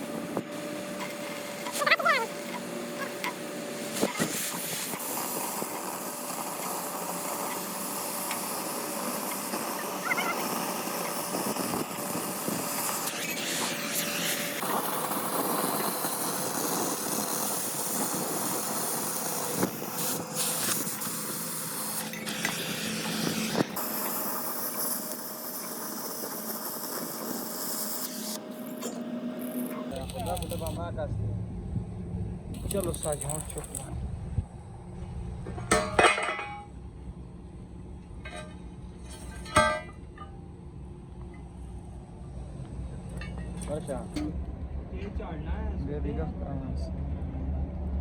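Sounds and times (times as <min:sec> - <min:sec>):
workshop machine hum: 0:00.0 - 0:46.2.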